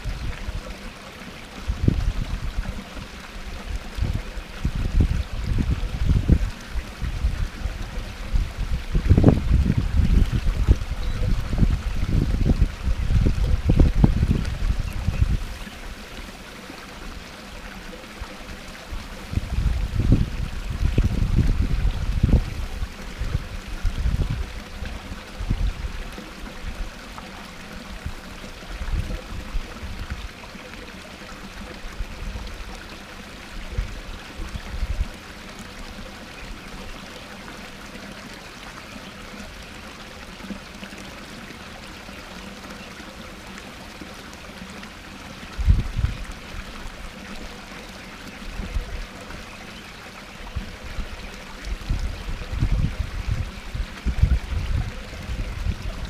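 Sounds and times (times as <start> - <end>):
waterfall splashing into pond: 0.0 - 56.0.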